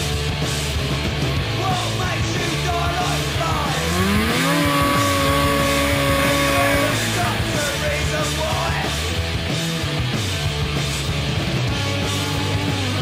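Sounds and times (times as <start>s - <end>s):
rock music with bass line: 0.0s - 13.0s.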